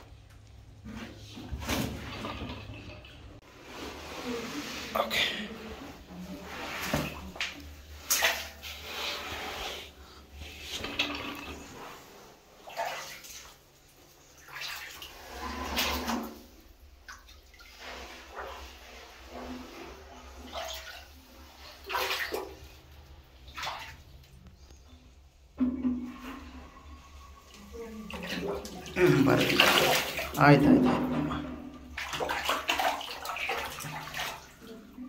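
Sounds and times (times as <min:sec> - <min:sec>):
water splashing and sloshing: 0:00.0 - 0:35.0.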